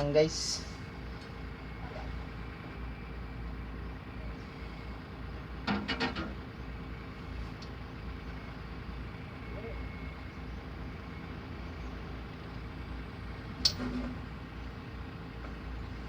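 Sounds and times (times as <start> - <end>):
low mechanical drone: 0.0 - 16.0.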